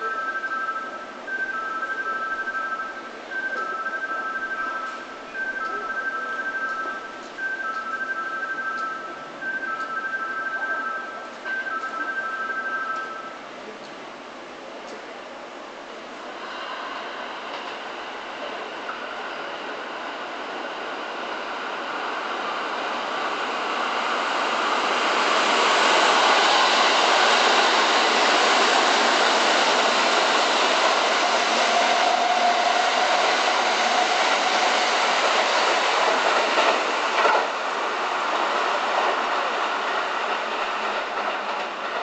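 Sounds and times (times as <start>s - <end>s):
electric train passing: 0.0s - 42.0s.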